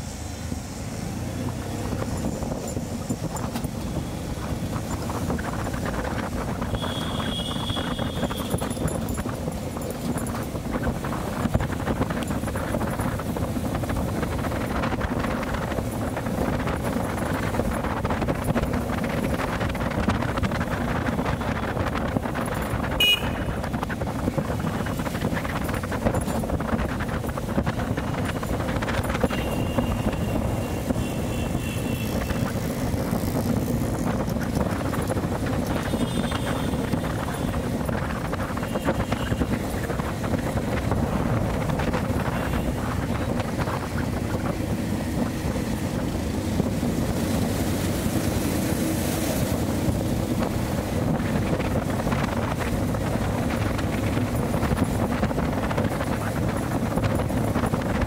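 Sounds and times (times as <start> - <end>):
wind rushing over microphone: 0.0 - 58.0
motorcycle engine running: 1.3 - 58.0.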